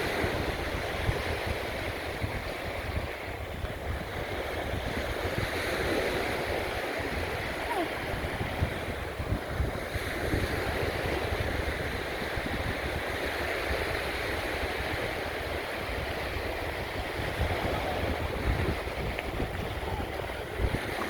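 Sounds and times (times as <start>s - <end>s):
sea surf washing on shore: 0.0s - 21.0s
wind buffeting microphone: 0.0s - 21.0s.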